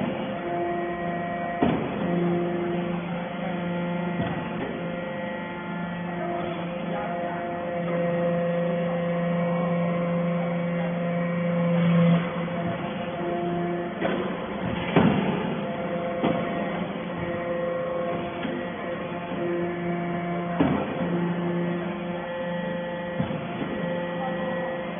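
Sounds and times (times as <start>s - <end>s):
hydraulic baler humming: 0.0s - 24.9s.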